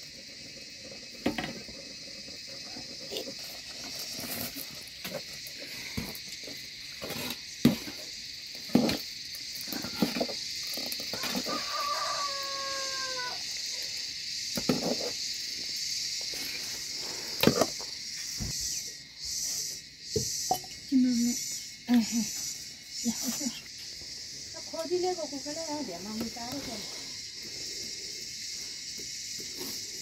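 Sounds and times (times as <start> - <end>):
insect chorus: 0.0 - 30.0.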